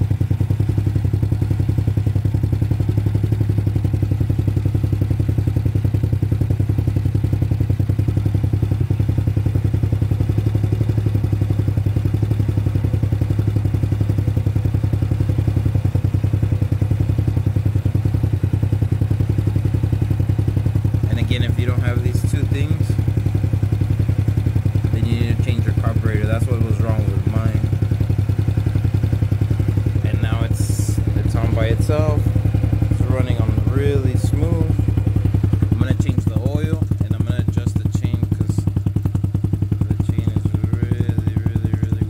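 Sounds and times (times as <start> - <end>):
go-kart engine running: 0.0 - 42.0.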